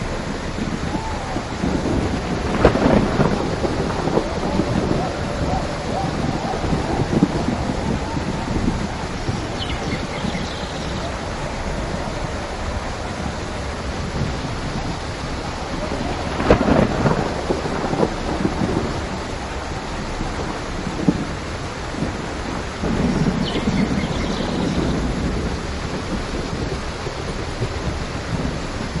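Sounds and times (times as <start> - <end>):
steady rain: 0.0 - 29.0
thunder clap rumbling: 0.0 - 29.0.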